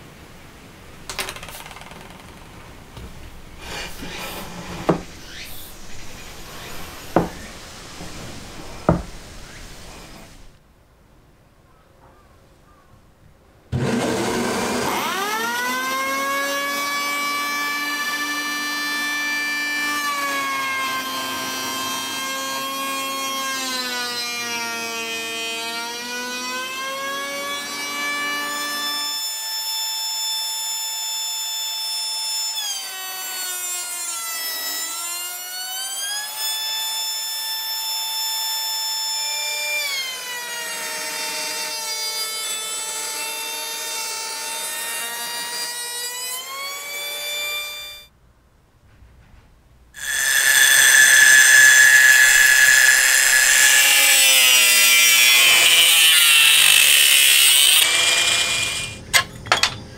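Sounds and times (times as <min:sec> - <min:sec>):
electric planer whining: 0:03.6 - 0:09.7, 0:13.8 - 0:48.1, 0:50.0 - 0:59.2.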